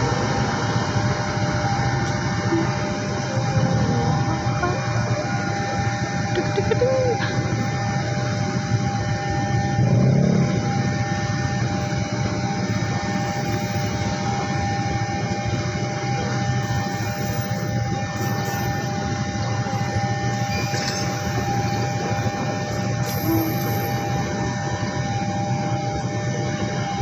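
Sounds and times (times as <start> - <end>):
steady high tone: 0.0 - 27.0
train wheels rumbling on rails: 0.0 - 27.0.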